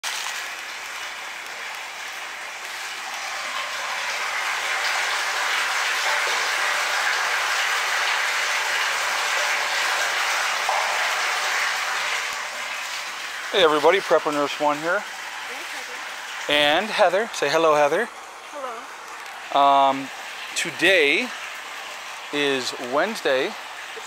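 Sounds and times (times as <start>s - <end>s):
water pouring from a hose: 0.0s - 24.0s.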